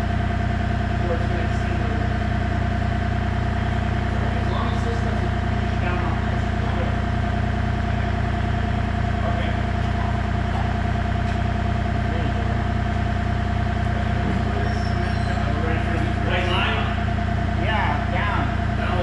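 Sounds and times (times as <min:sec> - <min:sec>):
diesel engine idling: 0:00.0 - 0:19.0
high whine: 0:00.0 - 0:19.0.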